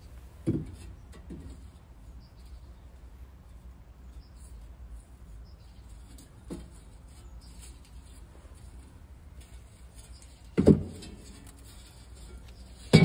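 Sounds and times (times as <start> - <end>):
quiet handling sounds: 0.0 - 13.0.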